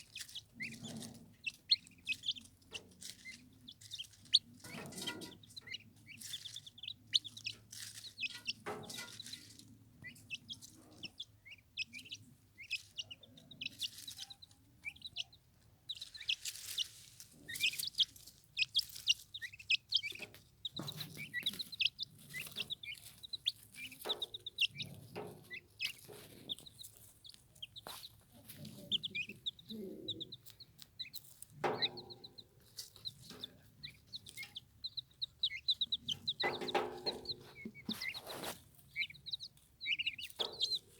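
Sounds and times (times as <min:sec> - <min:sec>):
turkey poults peeping: 0:00.0 - 0:40.9.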